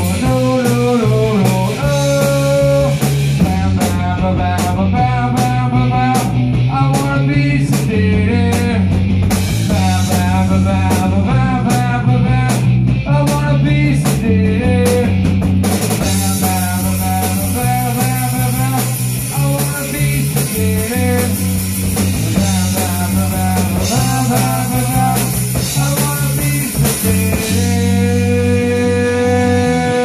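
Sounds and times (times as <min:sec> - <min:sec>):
person singing: 0:00.0 - 0:08.9, 0:09.7 - 0:15.2, 0:16.0 - 0:30.0
bass line: 0:00.0 - 0:30.0
drum kit and cymbals: 0:00.0 - 0:30.0
electric guitar: 0:00.0 - 0:30.0
rock band playing live: 0:00.0 - 0:30.0.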